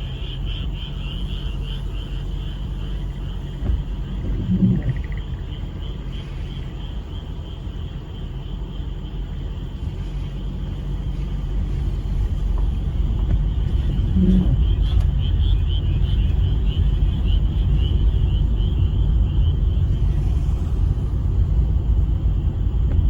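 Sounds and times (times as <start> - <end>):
frog chorus: 0.0 - 20.4
heavy low rumble: 0.0 - 23.0.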